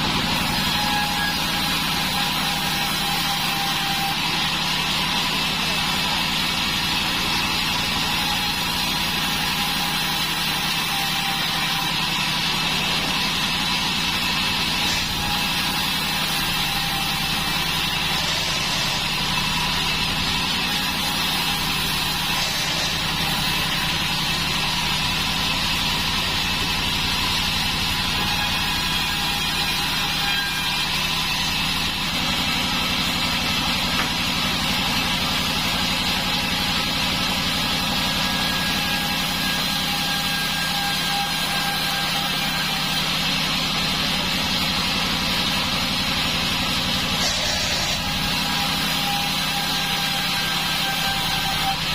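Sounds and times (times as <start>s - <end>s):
band saw droning: 0.0s - 51.9s.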